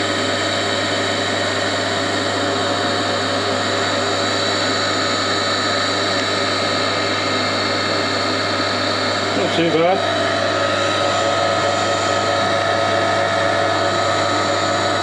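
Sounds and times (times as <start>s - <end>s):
electric motor humming and whining: 0.0s - 15.0s.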